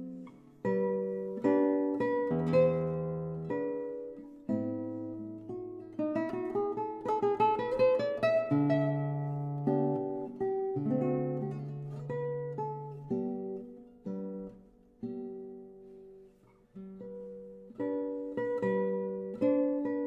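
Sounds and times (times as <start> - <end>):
solo classical guitar: 0.0 - 20.0.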